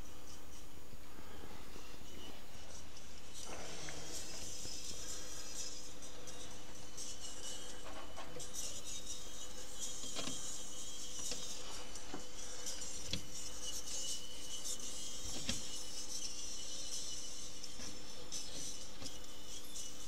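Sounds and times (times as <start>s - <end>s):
motor hum: 0.0s - 20.0s
mechanical rubbing: 1.7s - 20.0s.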